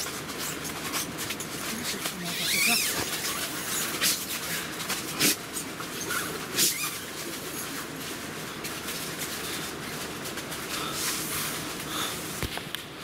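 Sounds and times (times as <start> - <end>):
rain on a tent: 0.0 - 13.0.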